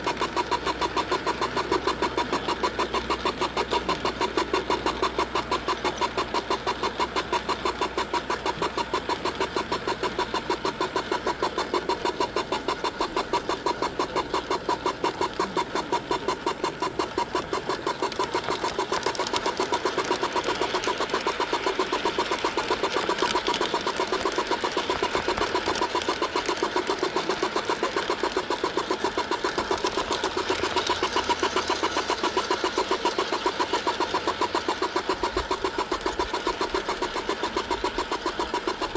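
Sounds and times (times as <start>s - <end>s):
fast even clicking: 0.0s - 38.9s
model train mechanical hum: 0.0s - 38.9s.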